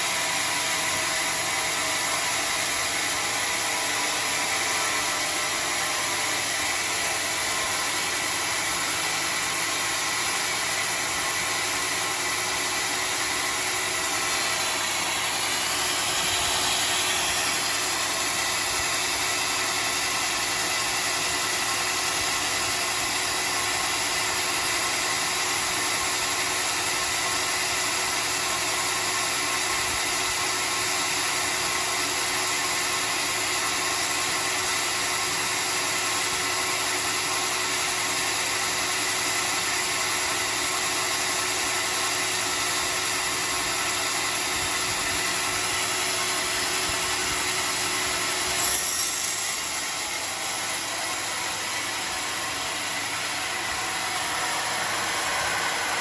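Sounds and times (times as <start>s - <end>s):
saw cutting through log: 0.0s - 56.0s.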